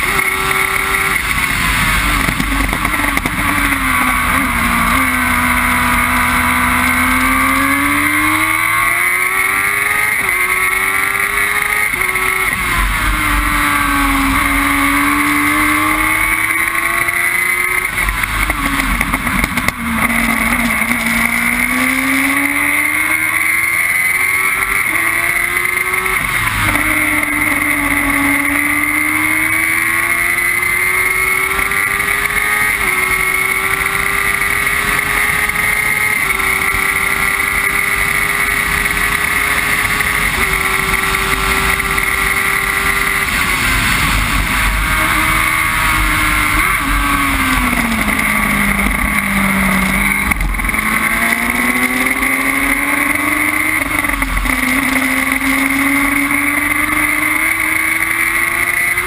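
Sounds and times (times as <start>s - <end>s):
racing car engine at full throttle: 0.0s - 59.0s.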